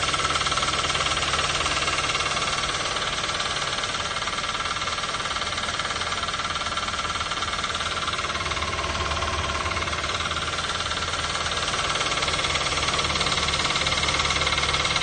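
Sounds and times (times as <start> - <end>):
engine running with rapid knock: 0.0 - 15.0.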